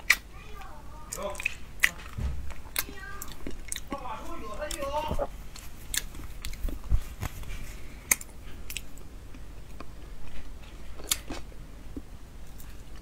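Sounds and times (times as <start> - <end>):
chewing with smacks and clicks: 0.0 - 13.0.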